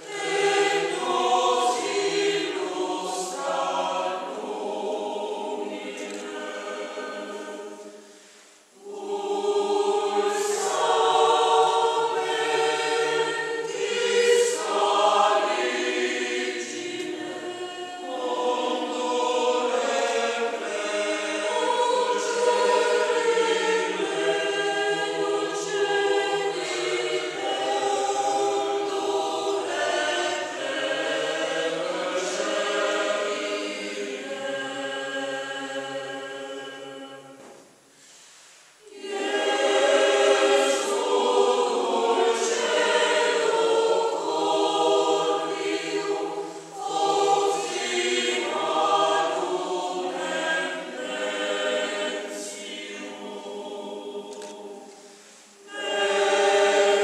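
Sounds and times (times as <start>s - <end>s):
mixed choir singing in parts: 0.0s - 37.6s, 38.8s - 57.0s.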